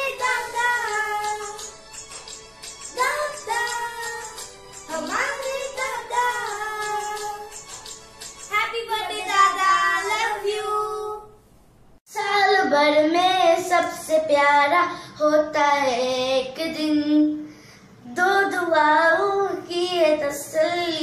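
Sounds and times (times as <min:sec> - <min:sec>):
girl singing: 0:00.0 - 0:01.7, 0:02.9 - 0:07.6, 0:08.5 - 0:11.4, 0:12.1 - 0:21.0.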